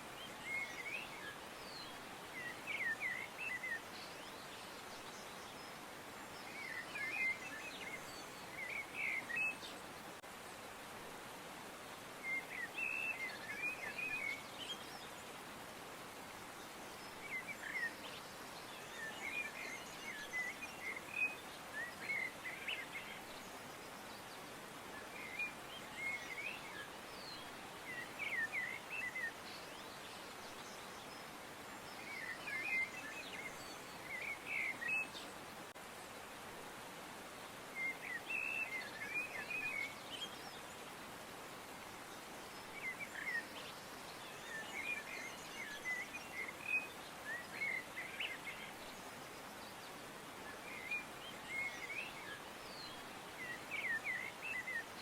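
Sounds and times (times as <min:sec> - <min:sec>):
steady background hiss: 0:00.0 - 0:55.0.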